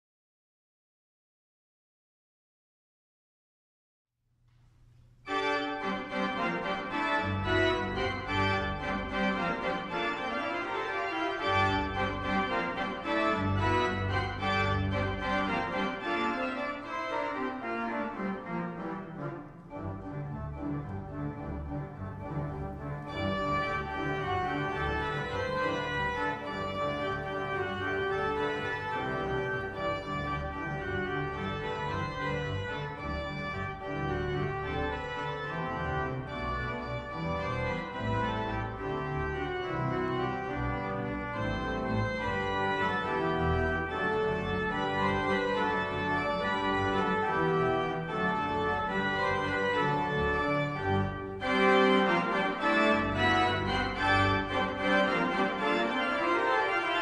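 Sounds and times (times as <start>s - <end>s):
pipe organ playing: 5.2s - 57.0s.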